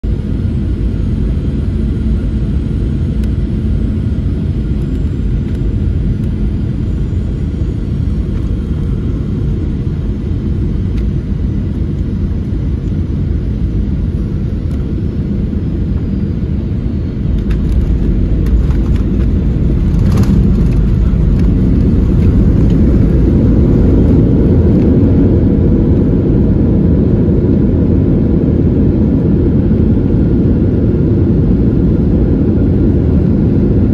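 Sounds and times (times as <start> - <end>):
jet engines and rushing air: 0.0 - 33.9.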